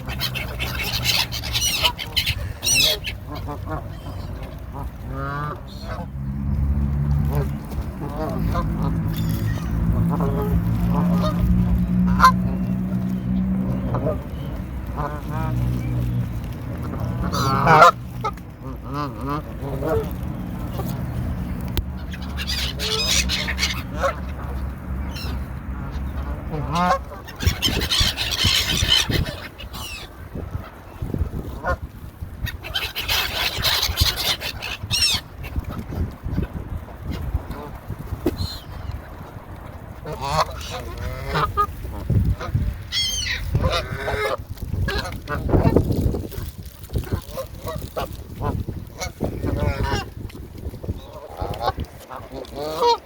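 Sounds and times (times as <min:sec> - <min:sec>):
seagulls calling: 0:00.0 - 0:06.3, 0:07.2 - 0:53.0
geese honking: 0:00.0 - 0:53.0.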